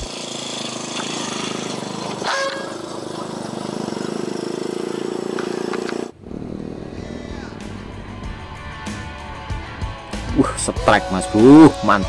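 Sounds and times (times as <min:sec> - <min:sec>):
small motorcycle engine idling: 0:00.0 - 0:10.5.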